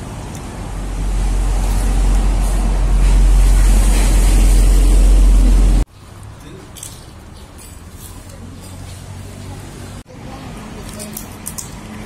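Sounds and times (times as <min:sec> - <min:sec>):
motor vehicle rumbling: 0:00.0 - 0:12.0.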